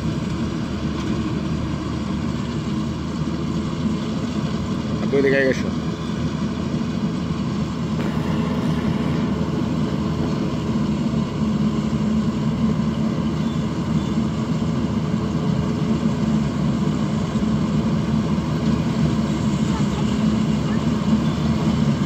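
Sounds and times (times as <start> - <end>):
combine harvester engine droning: 0.0 - 22.0.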